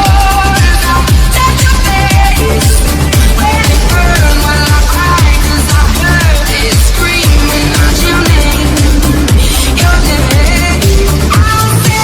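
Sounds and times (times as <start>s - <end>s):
electronic dance music: 0.0s - 12.0s
pounding kick drum: 0.0s - 12.0s.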